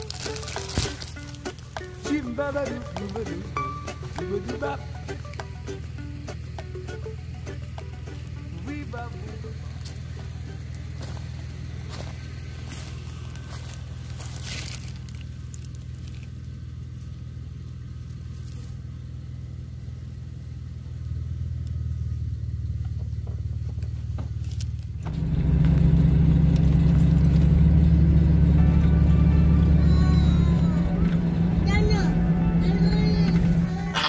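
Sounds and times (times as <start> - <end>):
car driving rumble from inside: 0.0 - 34.0
steady low hum: 0.0 - 34.0.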